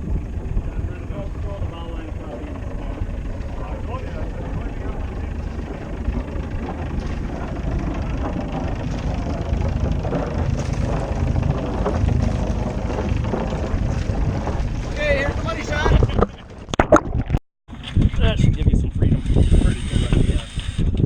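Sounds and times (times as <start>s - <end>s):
water rushing along a hull: 0.0s - 18.0s
wind buffeting microphone: 0.0s - 21.0s.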